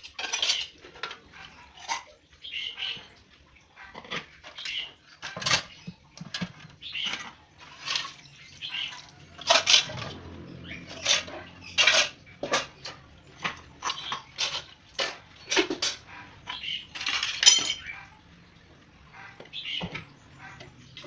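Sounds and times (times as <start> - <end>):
dishes and utensils clattering: 0.0 - 2.2, 3.8 - 21.0.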